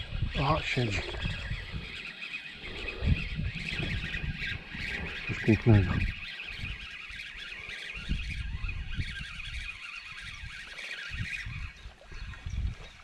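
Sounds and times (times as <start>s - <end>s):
fishing reel whirring: 0.0s - 13.0s
wind rumble on microphone: 0.0s - 13.0s.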